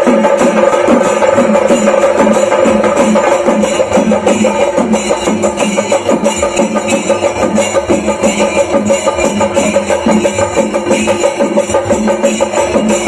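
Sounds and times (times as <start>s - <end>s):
drums beaten fast with sticks: 0.0s - 13.0s
hand cymbals clashing: 0.0s - 13.0s.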